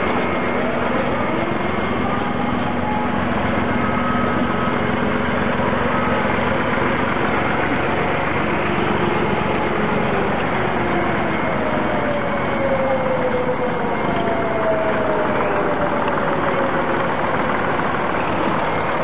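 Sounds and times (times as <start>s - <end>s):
tractor engines passing by: 0.0s - 19.0s.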